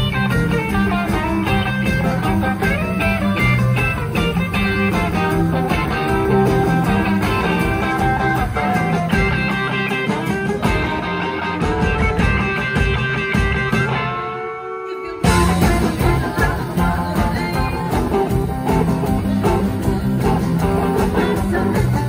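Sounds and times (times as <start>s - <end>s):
electric guitar: 0.0s - 22.0s
live rock and roll band: 0.0s - 22.0s.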